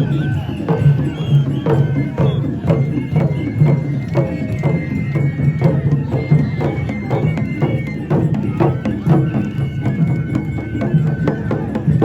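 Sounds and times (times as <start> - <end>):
festival drum strokes: 0.0 - 12.0.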